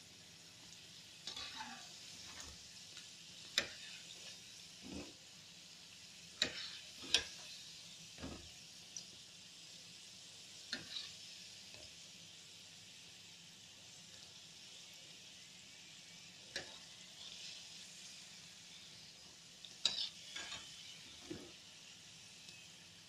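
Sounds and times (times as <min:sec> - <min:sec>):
food deep-frying sizzle: 0:00.0 - 0:23.0.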